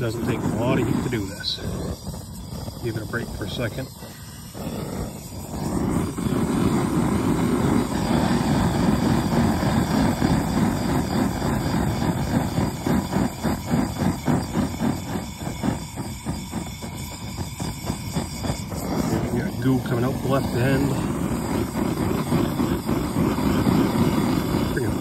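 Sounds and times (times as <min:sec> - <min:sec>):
gas torch flame roaring: 0:00.0 - 0:25.0.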